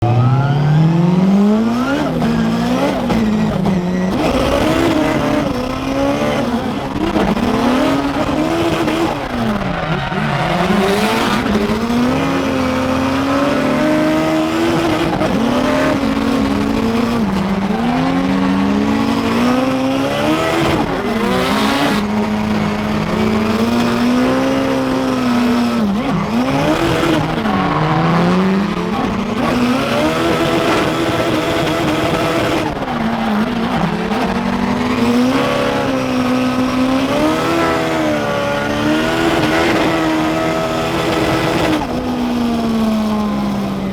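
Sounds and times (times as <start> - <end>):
car engines revving: 0.0 - 43.9
tyres sliding and squealing: 1.7 - 41.9.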